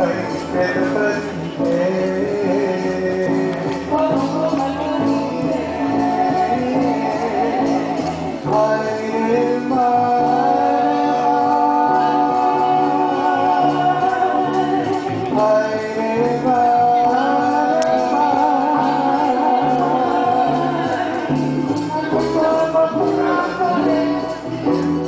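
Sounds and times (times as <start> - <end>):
group singing long held notes: 2.1 - 25.0.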